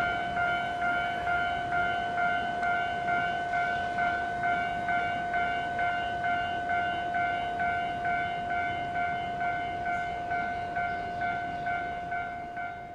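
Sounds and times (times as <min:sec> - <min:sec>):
railway warning signal tones: 0:00.0 - 0:12.9.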